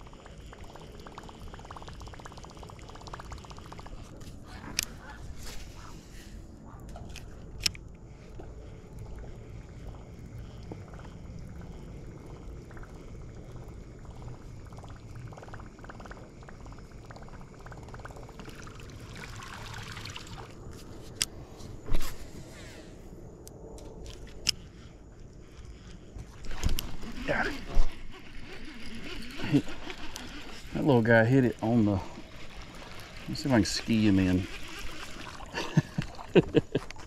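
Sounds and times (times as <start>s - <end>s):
water lapping around kayak hull: 0.0s - 22.4s, 24.6s - 37.0s.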